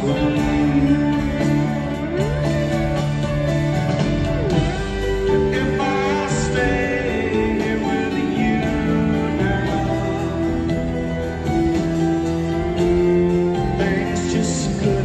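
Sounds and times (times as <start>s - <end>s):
electric slide guitar: 0.0s - 15.0s
live rock band playing: 0.0s - 15.0s.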